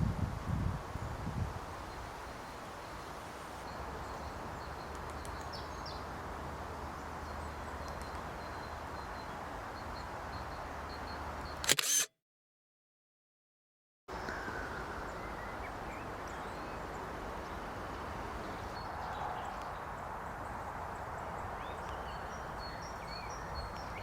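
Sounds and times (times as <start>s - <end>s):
outdoor background noise: 0.0s - 12.1s, 14.1s - 24.0s.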